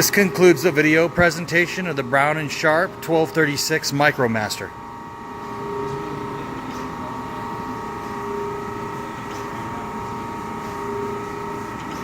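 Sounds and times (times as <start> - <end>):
grinding machine whine: 0.0 - 12.0.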